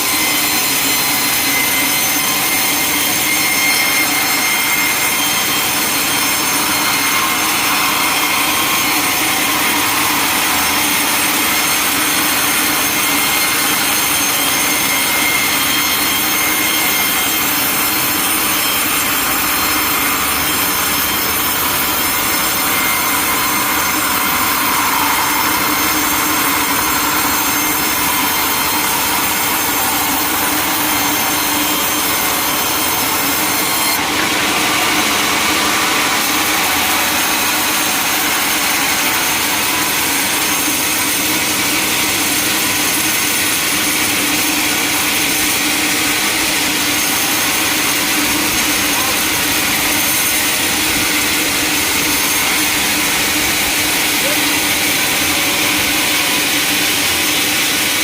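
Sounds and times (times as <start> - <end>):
saw running through log: 0.0 - 58.0.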